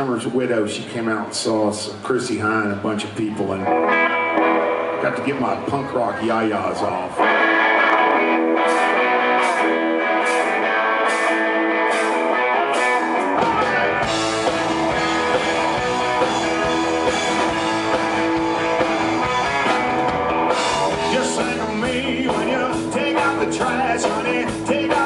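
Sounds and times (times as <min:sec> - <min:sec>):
electric guitar: 0:02.7 - 0:25.0
rock band playing: 0:03.6 - 0:25.0.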